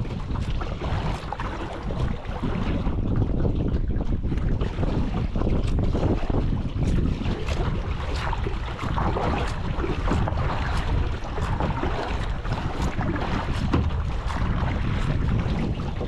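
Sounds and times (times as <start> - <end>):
choppy water: 0.0 - 16.0
wind buffeting microphone: 0.0 - 16.0.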